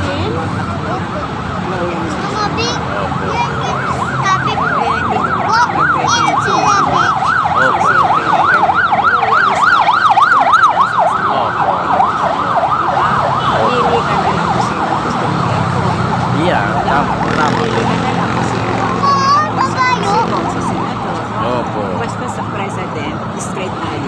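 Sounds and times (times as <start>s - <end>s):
emergency vehicle siren yelping: 0.0s - 24.0s.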